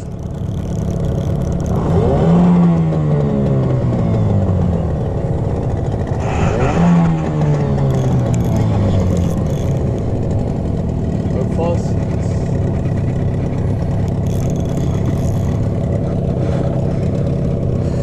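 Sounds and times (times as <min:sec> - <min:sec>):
outboard motor revving: 0:00.0 - 0:18.0.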